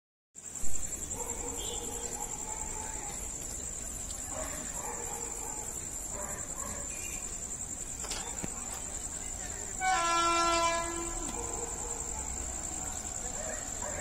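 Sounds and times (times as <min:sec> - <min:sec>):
insects trilling: 0:00.4 - 0:14.0.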